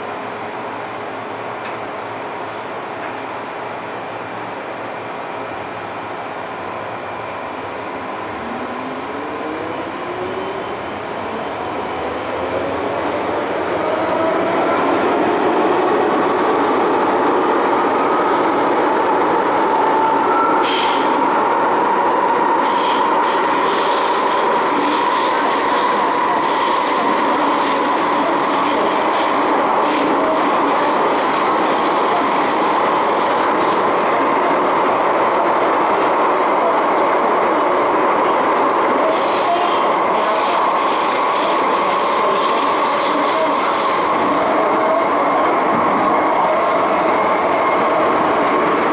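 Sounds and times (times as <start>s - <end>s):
train running through tunnel: 0.0s - 48.9s.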